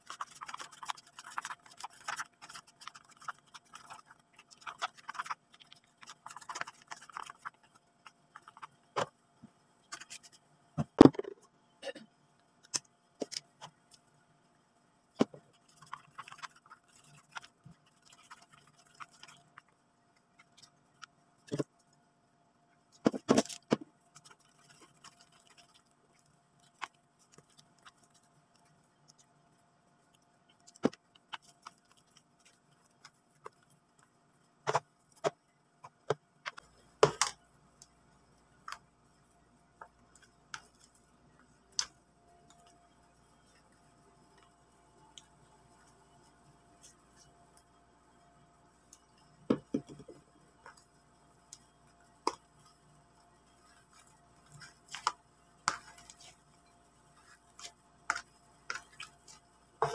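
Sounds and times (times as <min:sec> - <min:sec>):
stick stirring slime in a tub: 0:00.0 - 0:11.4, 0:15.1 - 0:22.0, 0:22.8 - 0:47.7, 0:48.8 - 0:59.9.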